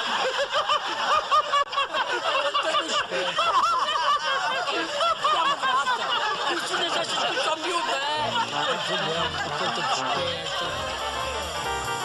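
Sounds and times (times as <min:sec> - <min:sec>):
man laughing loudly: 0:00.0 - 0:10.7
crowd laughing: 0:00.0 - 0:12.0.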